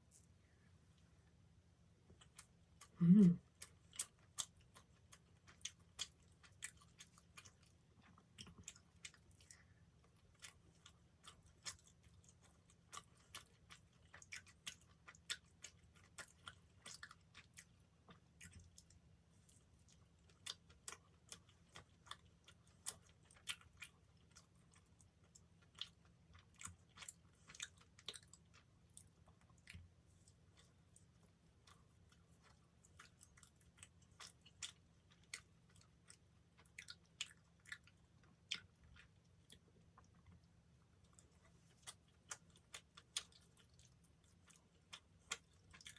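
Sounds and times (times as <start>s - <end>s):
chewing with mouth clicks: 2.1s - 45.9s.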